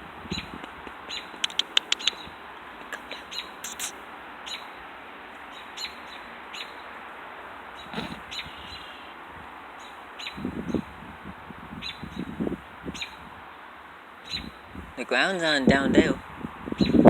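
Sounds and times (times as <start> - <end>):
songbird chirping: 0.0 - 11.1, 11.7 - 17.0.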